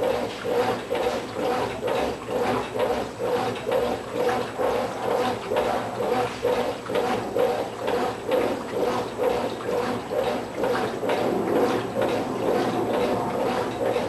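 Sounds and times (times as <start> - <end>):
washing machine agitating: 0.0 - 14.0
water sloshing in drum: 0.0 - 14.0.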